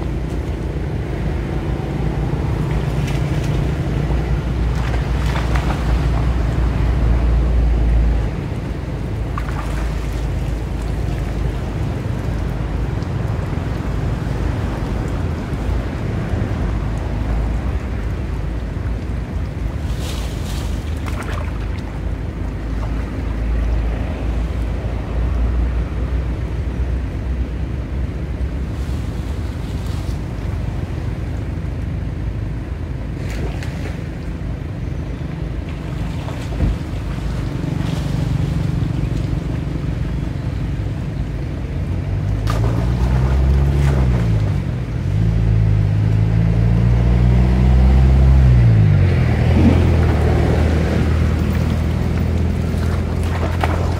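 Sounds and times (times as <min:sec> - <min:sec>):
vehicle engine humming: 0:00.0 - 0:21.0, 0:21.6 - 0:53.9.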